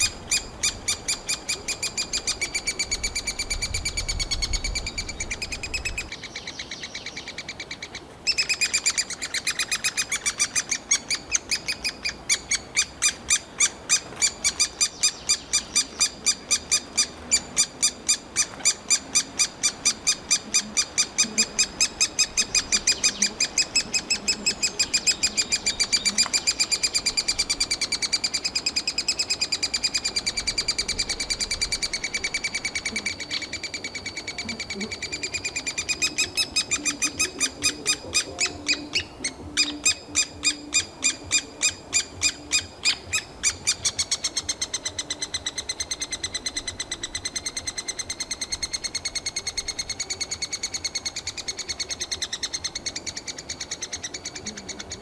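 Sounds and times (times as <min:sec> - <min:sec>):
woodpecker nestlings begging calls: 0:00.0 - 0:55.0.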